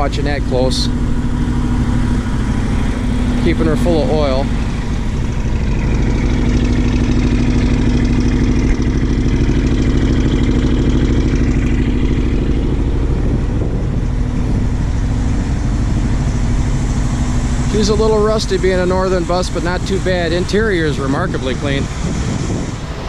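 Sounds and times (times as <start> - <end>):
bus engine fast idling: 0.0 - 23.0.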